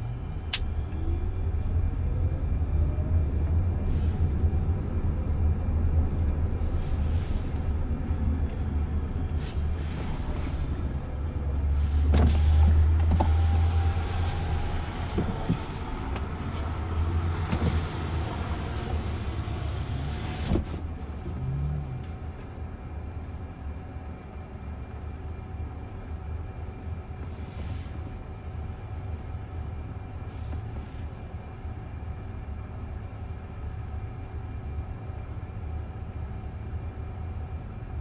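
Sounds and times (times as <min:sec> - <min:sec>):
road and tyre noise: 0:00.0 - 0:38.0.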